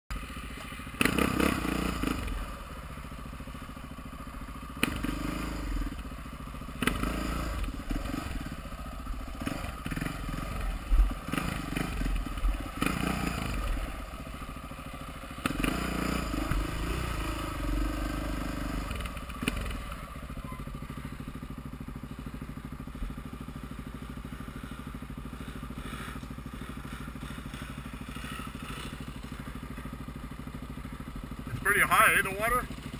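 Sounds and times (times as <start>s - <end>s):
dirt bike engine revving: 0.1s - 32.9s.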